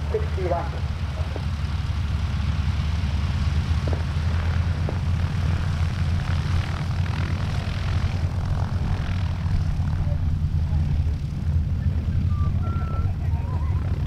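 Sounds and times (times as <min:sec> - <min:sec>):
radial engines low rumble: 0:00.0 - 0:14.0.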